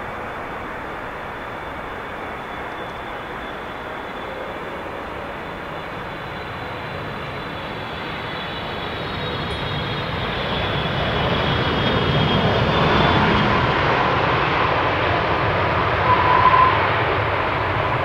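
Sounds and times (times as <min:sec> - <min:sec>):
jet engine rumble with fan whine: 0:00.0 - 0:18.0.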